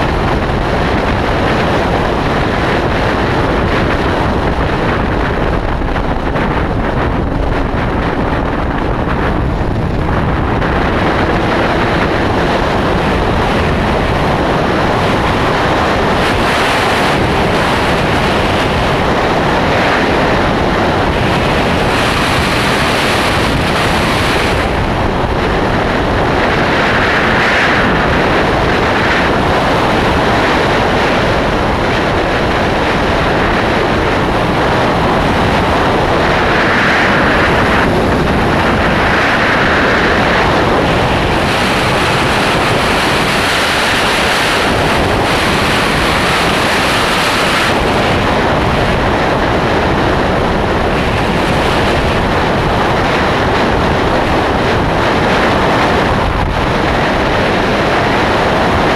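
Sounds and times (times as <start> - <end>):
road noise: 0.0 - 58.9
wind rushing over microphone: 0.0 - 58.9.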